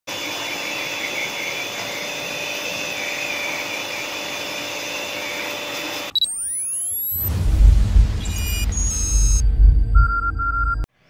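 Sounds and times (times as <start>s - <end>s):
pressure washer motor whine: 0.1s - 9.4s.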